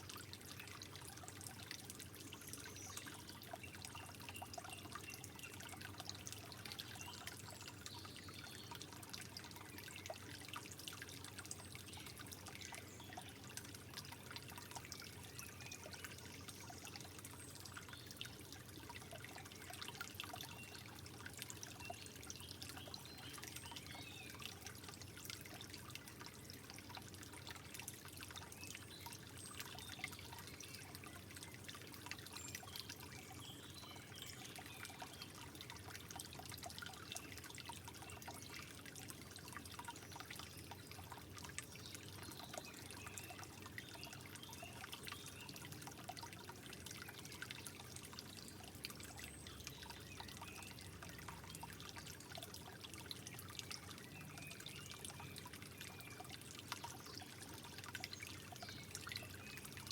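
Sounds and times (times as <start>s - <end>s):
small water splashes: 0.0s - 59.9s
water trickling and dripping: 0.0s - 59.9s.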